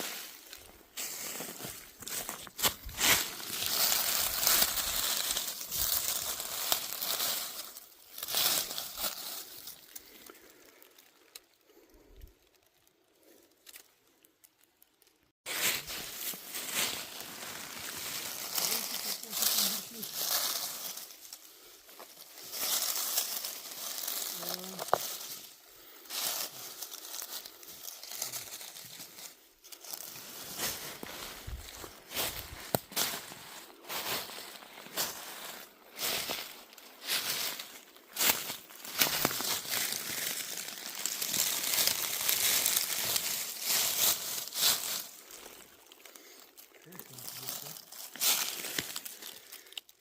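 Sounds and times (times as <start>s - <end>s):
dry leaves crunching: 0.0s - 10.7s, 15.0s - 49.9s.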